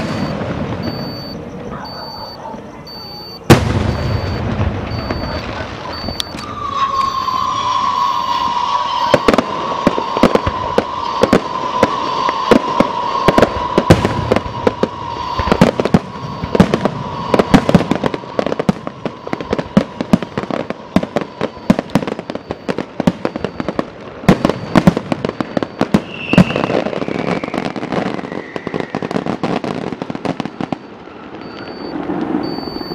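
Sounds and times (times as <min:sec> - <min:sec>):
falling firework whistle: 0:00.0 - 0:32.9
fireworks bangs and crackles: 0:00.0 - 0:32.9.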